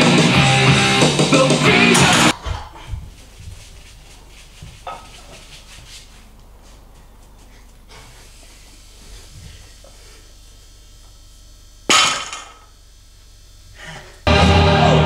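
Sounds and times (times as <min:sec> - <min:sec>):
low room hum: 0:02.3 - 0:15.0.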